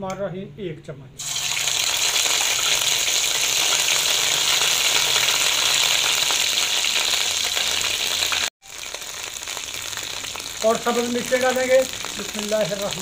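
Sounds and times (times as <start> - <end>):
paste sizzling in hot fat: 1.2 - 13.0.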